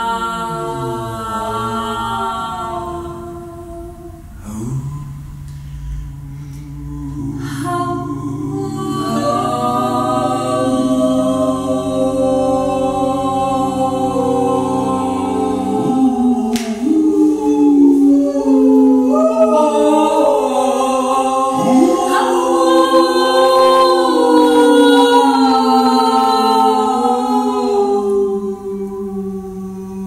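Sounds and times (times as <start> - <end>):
voices singing sustained tones: 0.0 - 30.0.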